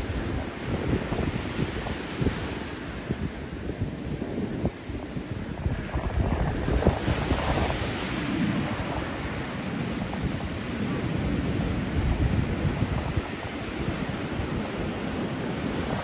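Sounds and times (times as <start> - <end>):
surf breaking on a beach: 0.0 - 16.0
wind buffeting the microphone: 0.0 - 16.0.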